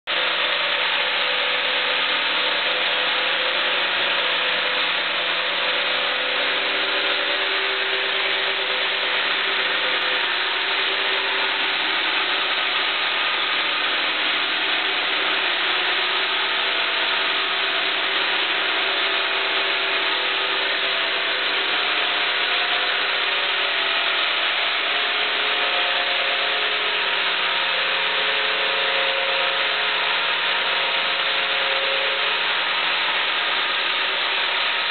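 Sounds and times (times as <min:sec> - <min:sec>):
sawmill saw cutting log: 0:00.3 - 0:34.9.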